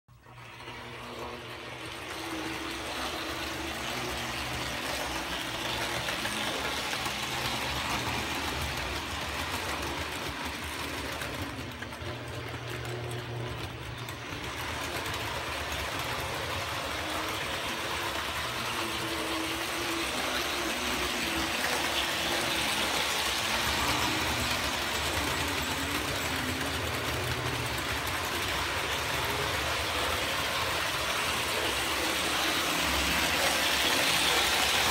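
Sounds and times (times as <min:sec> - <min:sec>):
toy train motors whirring: 0:00.2 - 0:34.9
wheels rumbling on rails: 0:00.3 - 0:34.9.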